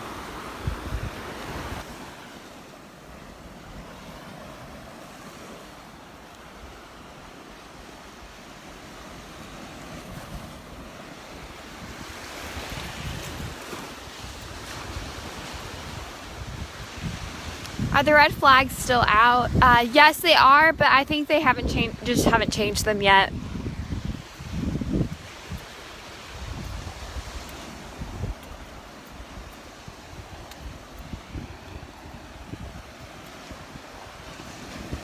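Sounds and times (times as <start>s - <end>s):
wind buffeting microphone: 0.0s - 2.2s, 8.2s - 35.0s
surf washing onto beach: 0.0s - 35.0s.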